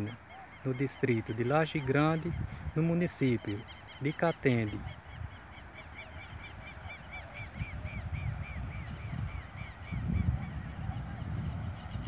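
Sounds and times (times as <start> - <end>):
bird calling repeated notes: 0.0 - 10.3
wind rumble on microphone: 1.2 - 3.7, 4.7 - 12.0.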